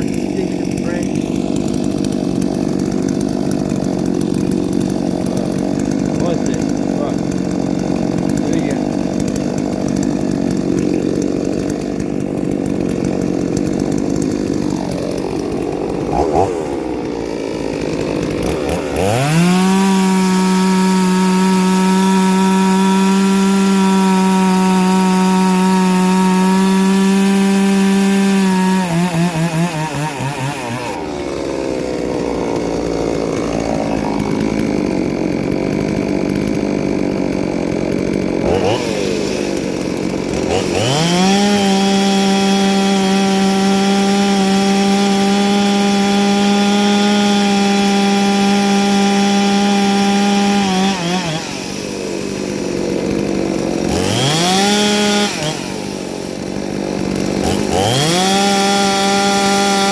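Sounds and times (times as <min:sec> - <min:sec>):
chainsaw cutting wood: 0:00.0 - 0:59.9
chainsaw revving at full throttle: 0:00.0 - 0:59.9.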